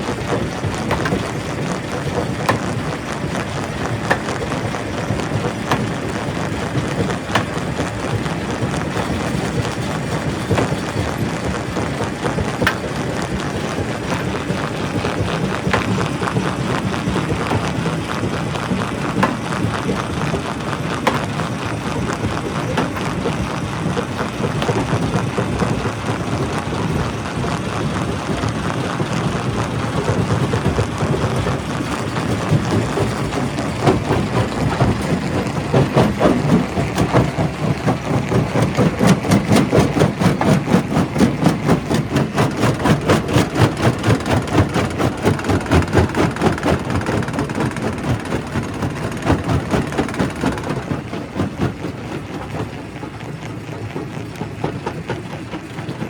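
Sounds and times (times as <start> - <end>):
rock crusher machine din: 0.0 - 56.0
rocks clacking and knocking: 0.0 - 56.0.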